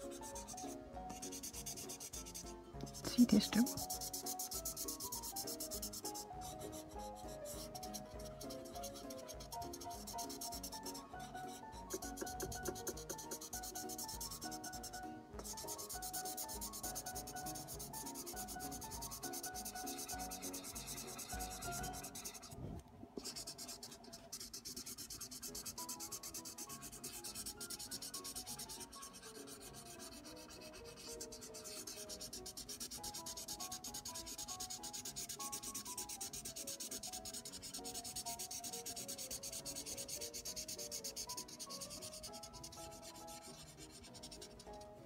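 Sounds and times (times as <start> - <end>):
pen tip scratching on paper: 0.0 - 22.6, 23.2 - 45.0.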